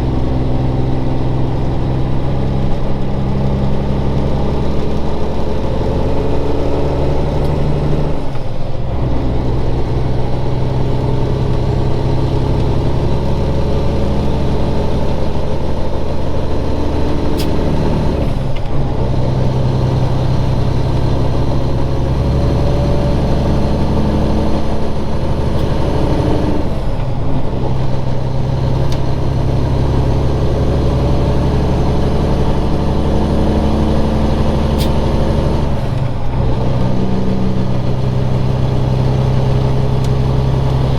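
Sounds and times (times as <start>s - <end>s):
diesel truck engine pulling: 0.0s - 40.9s.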